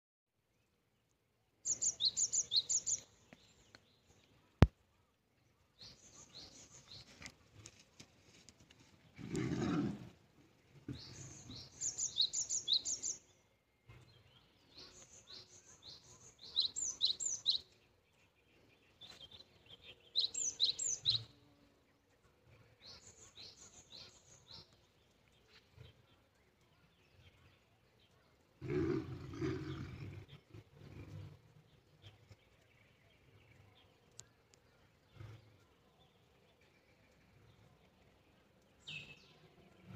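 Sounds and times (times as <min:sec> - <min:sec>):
songbird singing: 0:00.4 - 0:39.9.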